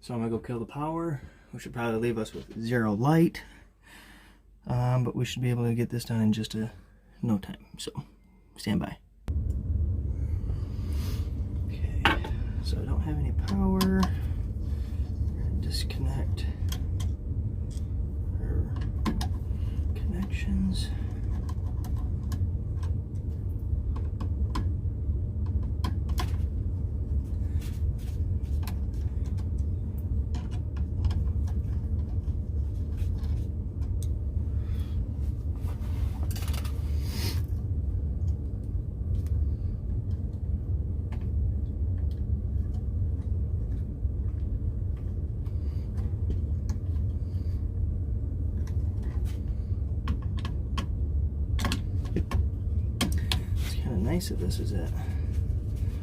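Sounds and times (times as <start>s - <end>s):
low rumble: 9.1s - 56.0s.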